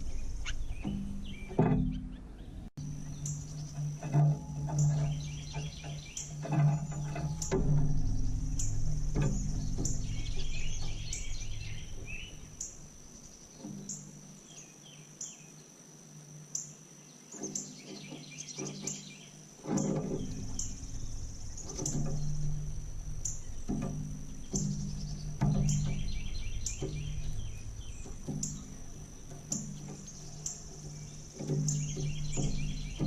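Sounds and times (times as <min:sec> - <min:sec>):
pulsing insect trill: 0:00.0 - 0:02.0, 0:02.8 - 0:33.0
low hum: 0:00.0 - 0:14.4, 0:19.6 - 0:33.0
songbirds twittering: 0:00.0 - 0:33.0.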